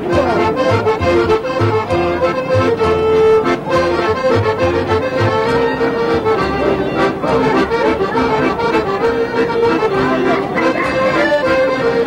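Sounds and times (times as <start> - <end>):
accordion music: 0.0 - 12.0.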